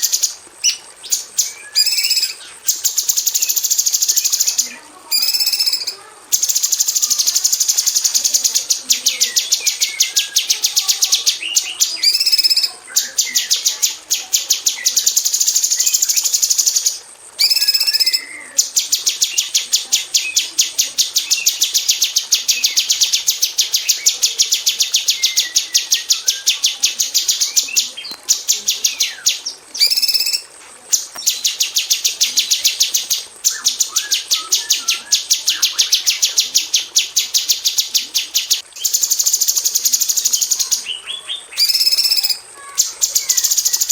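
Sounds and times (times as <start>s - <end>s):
bird singing rapid high notes: 0.0s - 43.9s.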